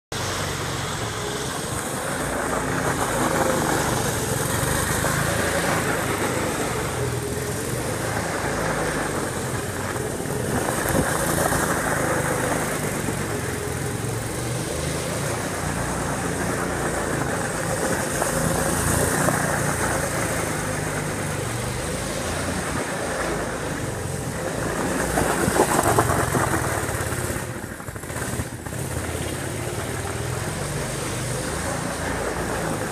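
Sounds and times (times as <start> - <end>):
buggy engine revving: 0.2 - 32.9.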